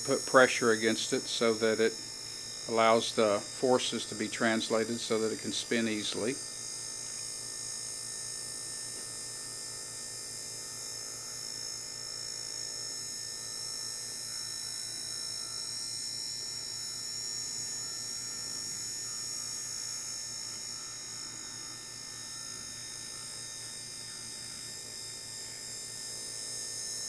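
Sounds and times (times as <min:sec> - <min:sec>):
small electric motor whining: 0:00.0 - 0:27.0.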